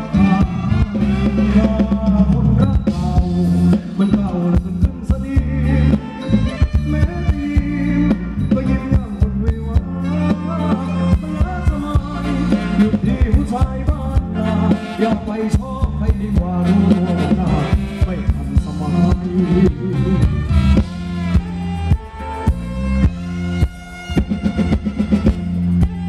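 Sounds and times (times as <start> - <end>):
heavy bass: 0.0 - 26.0
live band playing dance music: 0.0 - 26.0
steady drum beat: 0.0 - 26.0.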